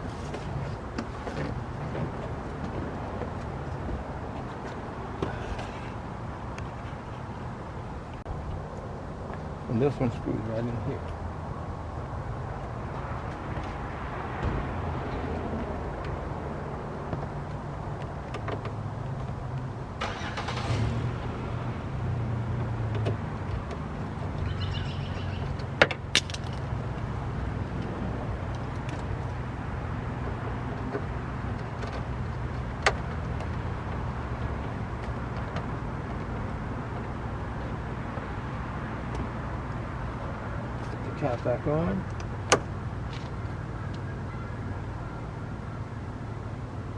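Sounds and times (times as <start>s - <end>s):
low vehicle rumble: 0.0s - 46.9s.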